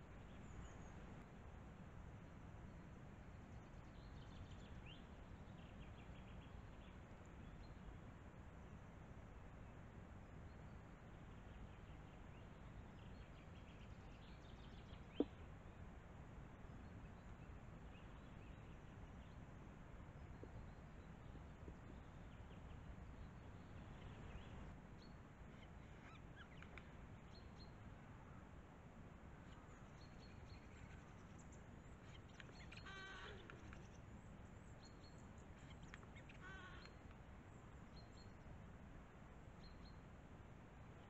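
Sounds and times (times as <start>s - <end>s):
microphone hiss and rumble: 0.0s - 41.0s.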